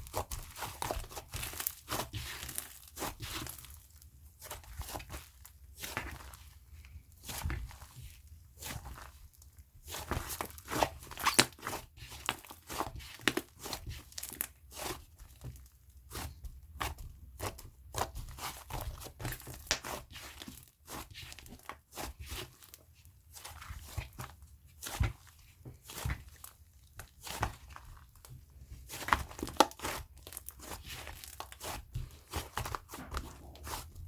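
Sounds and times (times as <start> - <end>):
slime being squished and pulled: 0.0 - 34.0.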